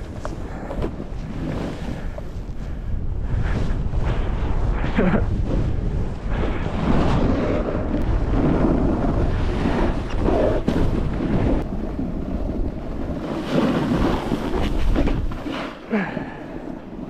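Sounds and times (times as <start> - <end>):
snowboard sliding on snow: 0.0 - 17.0
wind buffeting microphone: 0.0 - 17.0.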